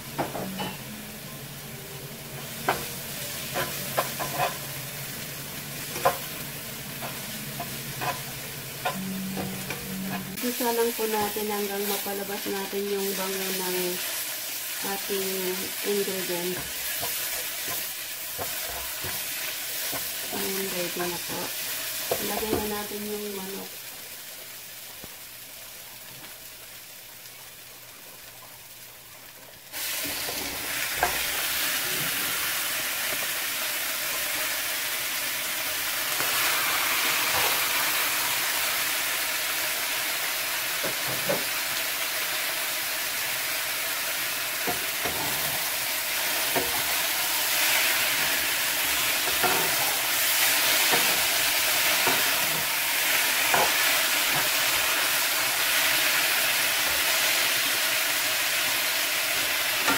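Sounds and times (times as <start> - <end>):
chicken frying sizzle: 0.0 - 59.9.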